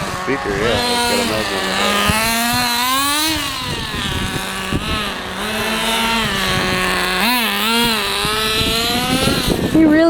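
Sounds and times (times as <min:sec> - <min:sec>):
small engine revving high-pitched: 0:00.0 - 0:10.0.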